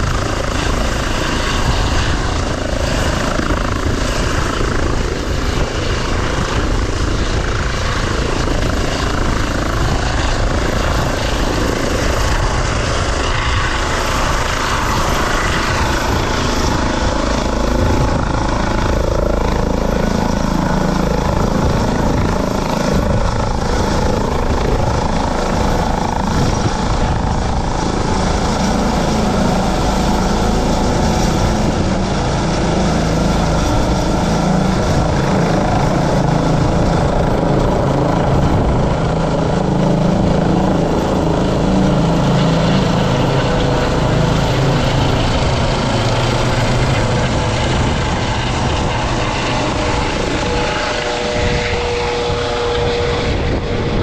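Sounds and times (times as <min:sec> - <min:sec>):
helicopter rotor and turbine noise: 0:00.0 - 0:54.0
steady whine: 0:00.0 - 0:54.0.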